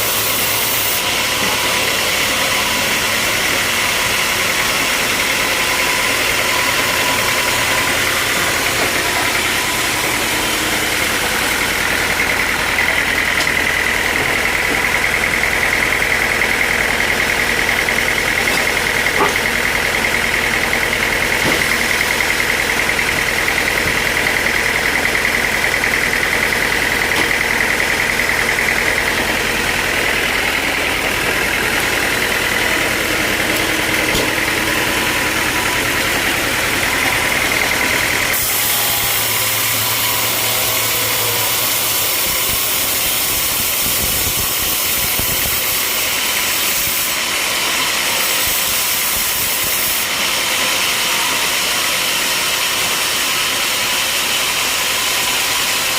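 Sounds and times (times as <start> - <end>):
sawmill machinery whining: 0.0 - 55.9.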